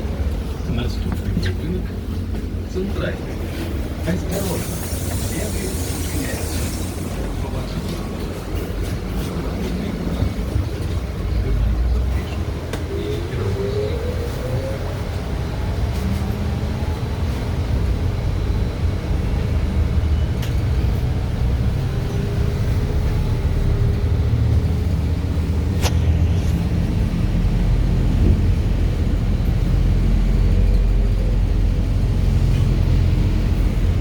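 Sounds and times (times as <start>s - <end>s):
trolleybus running gear rumble: 0.0s - 34.0s.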